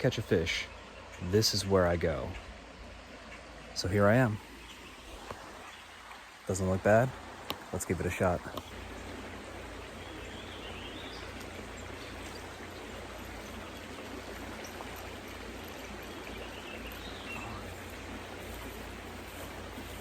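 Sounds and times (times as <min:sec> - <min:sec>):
creek flowing over rocks: 0:00.0 - 0:20.0.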